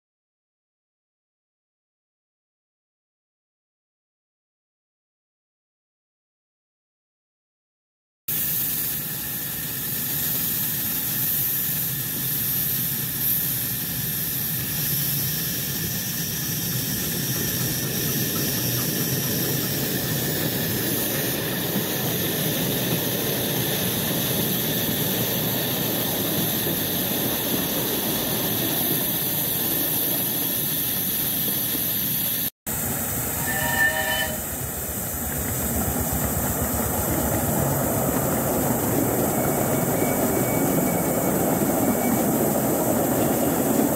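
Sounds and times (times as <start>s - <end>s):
loud steam hiss: 8.3s - 43.9s
passing train rumble: 8.3s - 43.9s.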